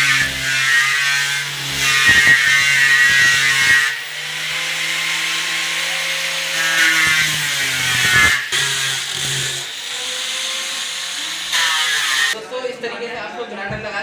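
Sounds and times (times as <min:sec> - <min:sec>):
angle grinder sanding wood: 0:00.0 - 0:12.4.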